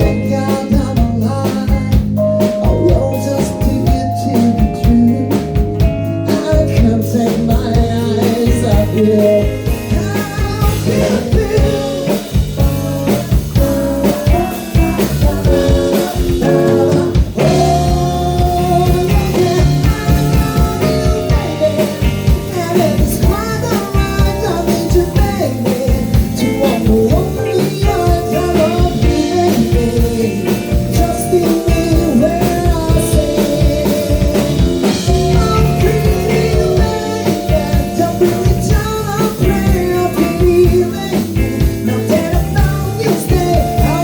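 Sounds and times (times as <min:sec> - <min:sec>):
live band playing: 0:00.0 - 0:44.0.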